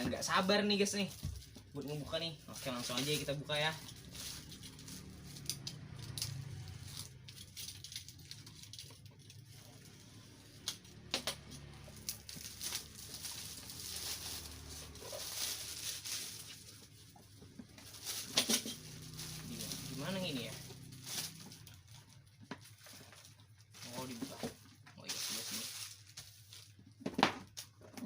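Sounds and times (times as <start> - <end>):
packaging rustling: 2.5 - 27.6.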